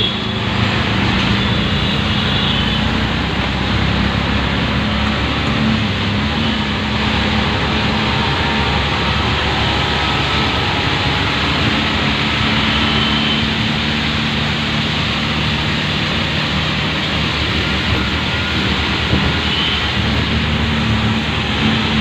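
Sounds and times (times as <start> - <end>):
auto-rickshaw engine hum: 0.0 - 22.0
rain hissing on wet road: 0.1 - 22.0.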